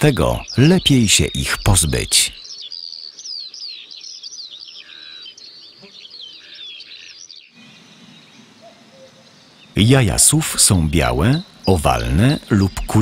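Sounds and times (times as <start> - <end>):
songbirds twittering: 0.0 - 13.0.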